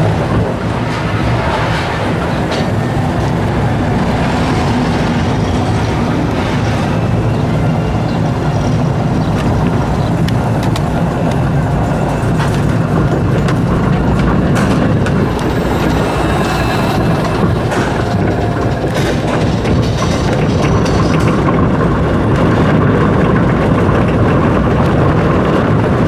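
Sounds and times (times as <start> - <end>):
roller coaster rumble: 0.0 - 26.0.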